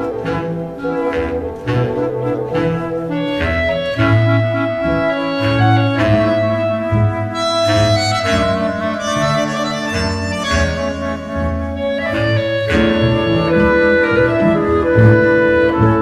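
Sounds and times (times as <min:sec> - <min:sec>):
reedy held melody notes: 0:00.0 - 0:16.0.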